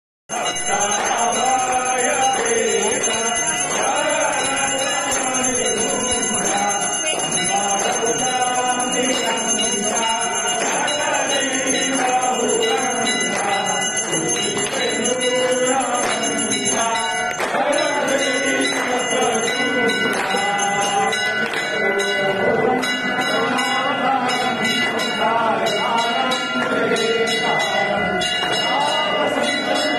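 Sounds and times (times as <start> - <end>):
temple bells ringing: 0.3 - 29.9
voices singing a hymn: 0.3 - 29.9.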